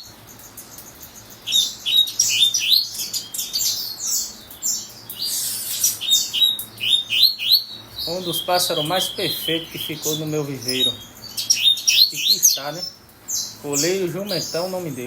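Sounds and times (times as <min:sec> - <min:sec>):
bird singing high chirps: 0:00.0 - 0:15.0.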